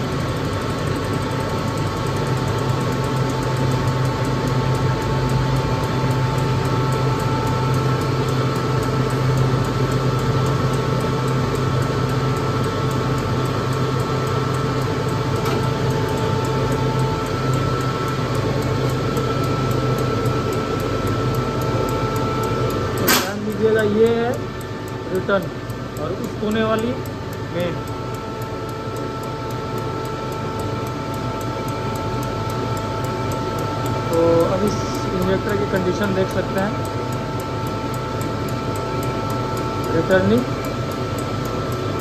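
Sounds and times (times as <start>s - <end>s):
faint injector ticking: 0.0s - 42.0s
pump and motor hum: 0.0s - 42.0s.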